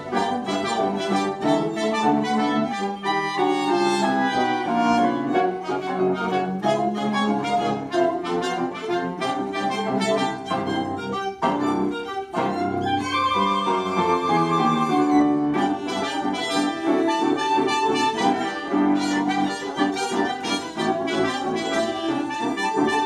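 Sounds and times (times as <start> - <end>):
chamber ensemble playing classical: 0.0 - 23.0
trumpet: 0.0 - 23.0.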